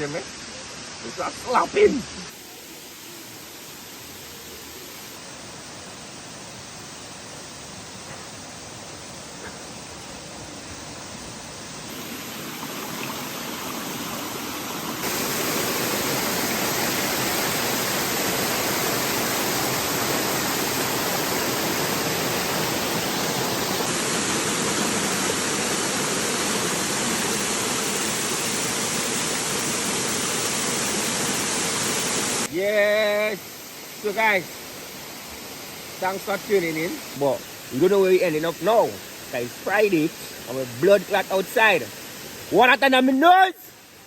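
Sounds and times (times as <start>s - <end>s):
waterfall roaring: 8.2s - 43.8s.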